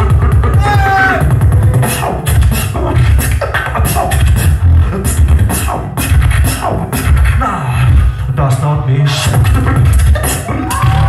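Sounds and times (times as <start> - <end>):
beatboxing into a microphone: 0.0 - 11.0
deep beatbox bass line: 0.0 - 11.0.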